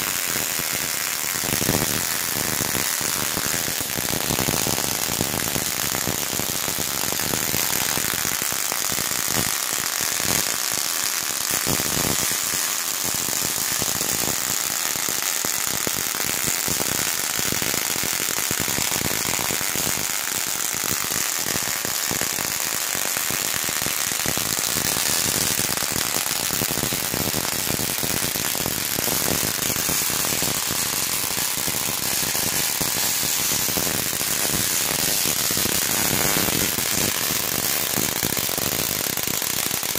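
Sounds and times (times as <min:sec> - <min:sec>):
tesla coil arcs crackling: 0:00.0 - 0:39.9.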